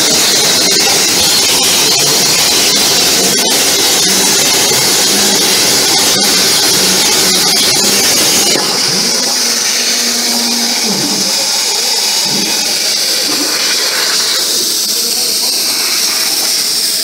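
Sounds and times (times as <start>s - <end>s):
plasma cutter hissing: 0.0s - 17.0s.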